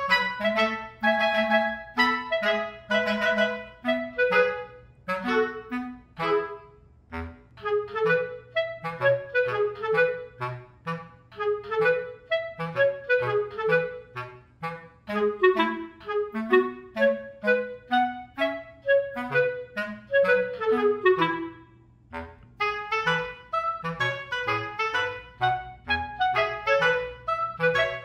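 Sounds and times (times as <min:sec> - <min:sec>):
bouncy woodwind tune: 0:00.0 - 0:28.0.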